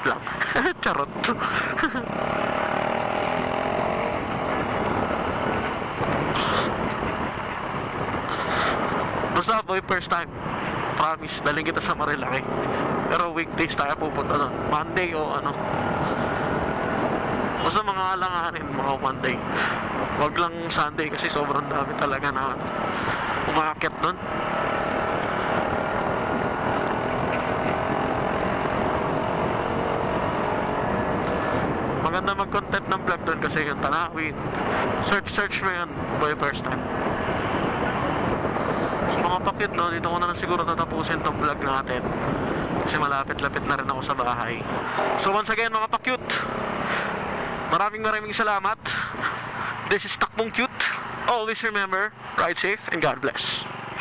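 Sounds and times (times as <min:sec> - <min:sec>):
riding noise: 0:00.0 - 0:54.0
wind rushing over microphone: 0:02.6 - 0:47.7.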